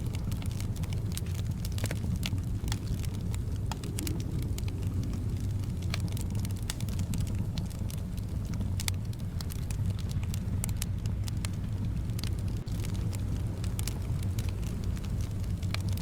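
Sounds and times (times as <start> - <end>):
low rumble of wind: 0.0 - 16.0
wood fire crackling and popping: 0.0 - 16.0.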